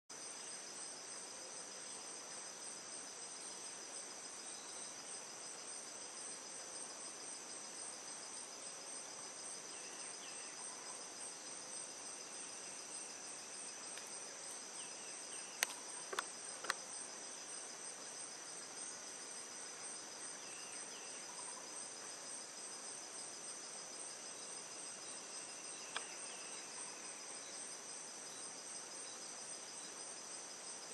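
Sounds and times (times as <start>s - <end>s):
insects buzzing: 0.1s - 30.9s.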